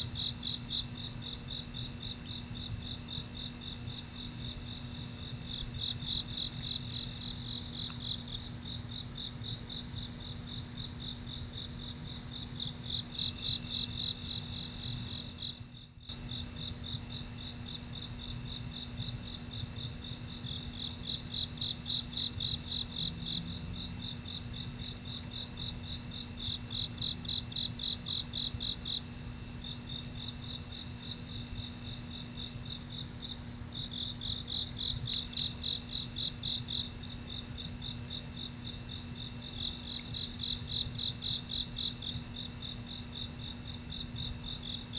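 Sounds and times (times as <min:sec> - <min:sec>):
rhythmic insect chirping: 0:00.0 - 0:44.9.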